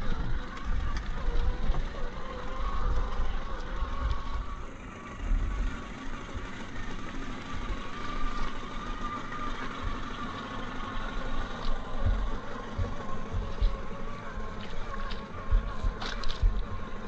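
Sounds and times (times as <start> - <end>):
low rumbles and thumps: 0.0 - 17.0
rc car motor whining: 0.0 - 17.0.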